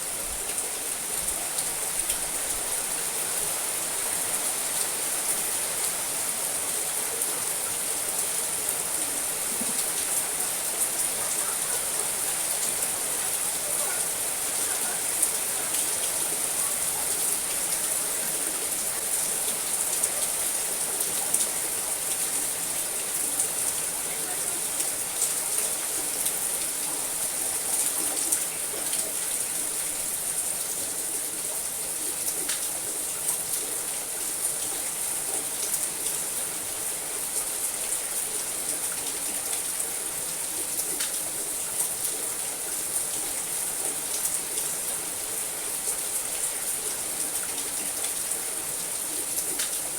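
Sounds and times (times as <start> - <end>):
rain on a roof: 0.0 - 49.9.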